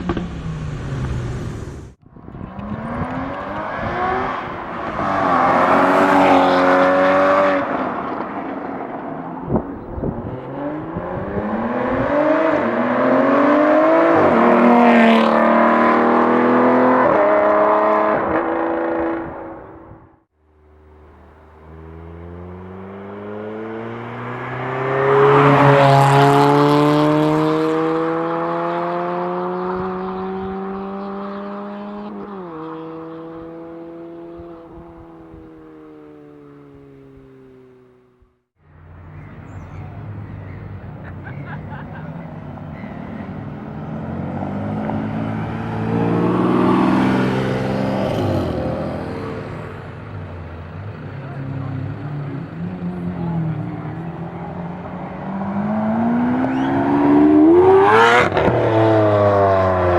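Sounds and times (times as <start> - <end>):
supercar accelerating past: 0.0 - 20.0, 20.8 - 38.2, 42.2 - 59.9
sports car passing: 0.0 - 59.9.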